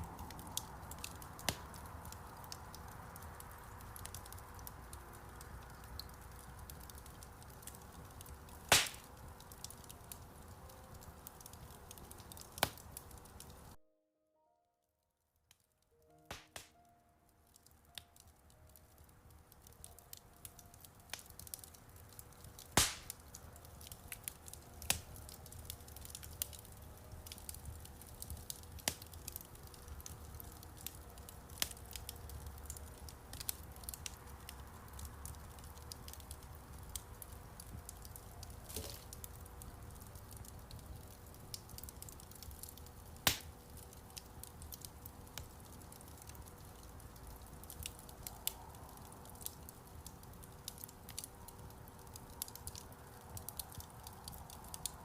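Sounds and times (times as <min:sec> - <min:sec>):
wood fire crackling: 0:00.0 - 0:13.8, 0:15.4 - 0:55.0.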